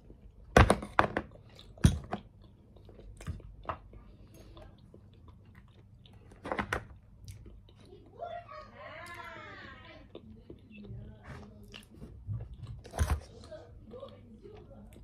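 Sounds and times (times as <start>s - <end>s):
person chewing food: 0.0s - 8.2s, 8.9s - 15.0s.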